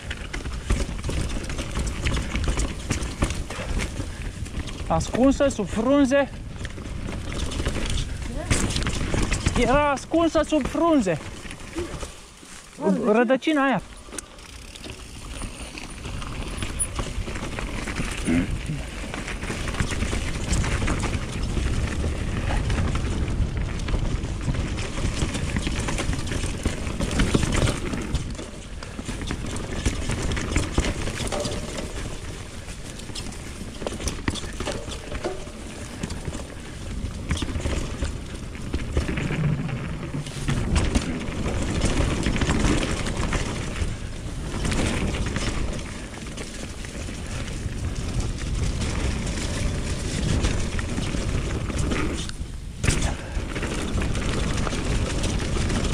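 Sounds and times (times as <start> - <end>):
bike rattles and clicks: 0.0 - 55.9
bike tyre noise on dirt: 0.0 - 55.9.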